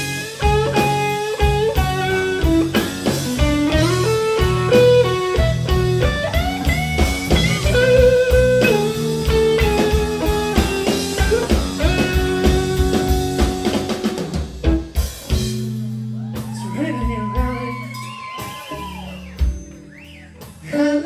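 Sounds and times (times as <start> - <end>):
bass guitar: 0.0 - 21.0
drum kit: 0.0 - 21.0
electric guitar lead: 0.0 - 21.0.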